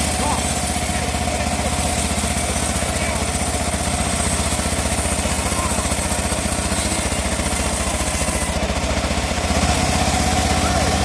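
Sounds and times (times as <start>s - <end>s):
engine running with pulsing beat: 0.0s - 11.0s.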